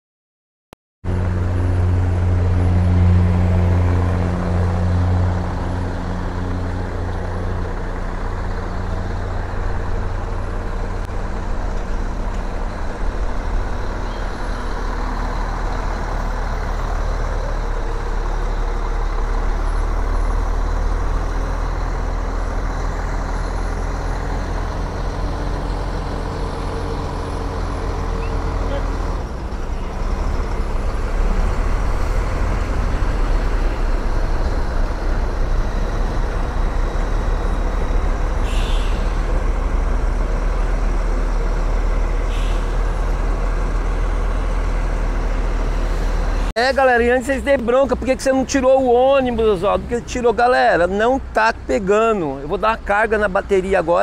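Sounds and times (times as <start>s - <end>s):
truck diesel engine rumbling: 1.1s - 54.0s.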